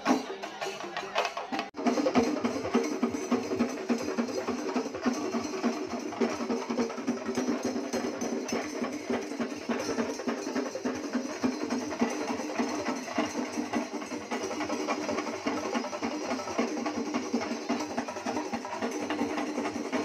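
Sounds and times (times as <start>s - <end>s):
rapid drumming: 0.0s - 20.0s.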